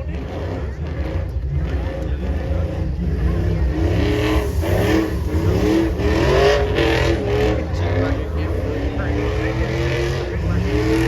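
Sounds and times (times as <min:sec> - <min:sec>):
truck engines rumbling and revving: 0:00.0 - 0:11.0.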